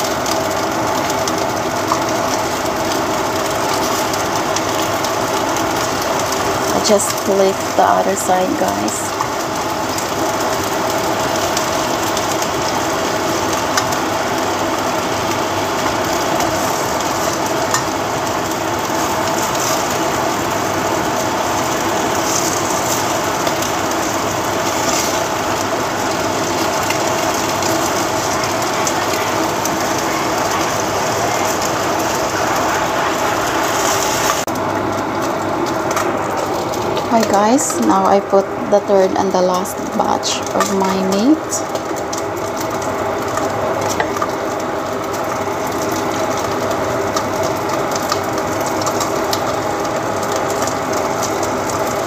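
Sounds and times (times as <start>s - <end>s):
meat sizzling in a pot: 0.0s - 52.0s
motor hum: 0.0s - 52.0s.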